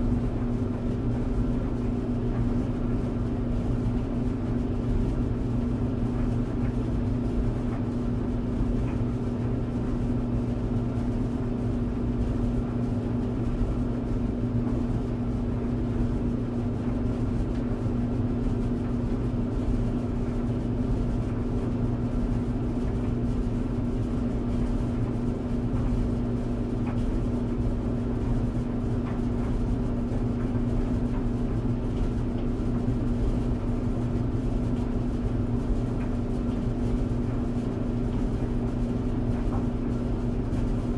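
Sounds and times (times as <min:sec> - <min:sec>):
tumble dryer running: 0:00.0 - 0:40.9.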